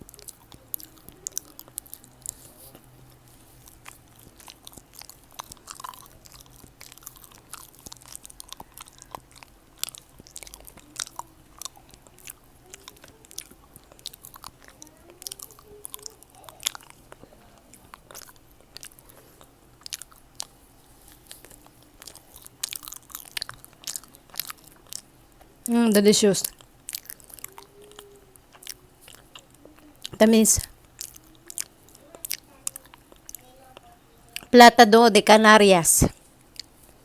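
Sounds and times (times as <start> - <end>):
chewing and biting fruit: 0.0 - 25.8, 26.4 - 34.5.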